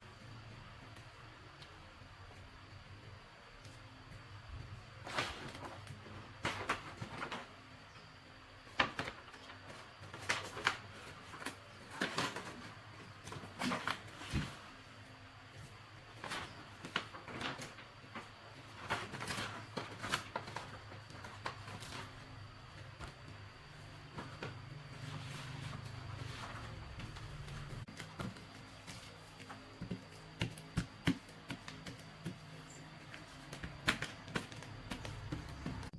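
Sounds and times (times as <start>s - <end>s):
faint low hum: 0.0s - 35.9s.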